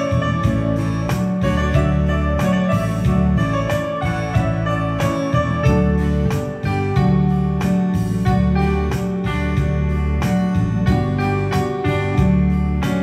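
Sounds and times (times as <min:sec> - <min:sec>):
instrumental music with guitar: 0:00.0 - 0:13.0.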